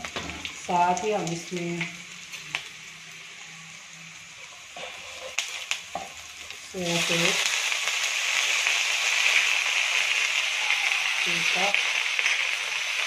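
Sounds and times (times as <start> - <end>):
food sizzling in oil: 0.0 - 13.0
sauce poured into hot oil: 0.0 - 13.0.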